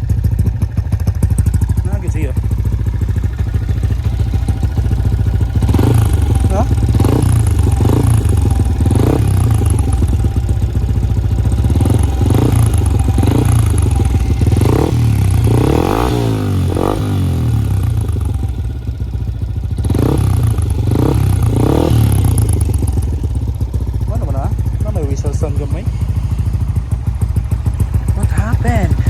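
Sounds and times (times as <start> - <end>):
motorcycle engine revving: 0.0 - 29.0
exhaust whistling: 1.8 - 29.0.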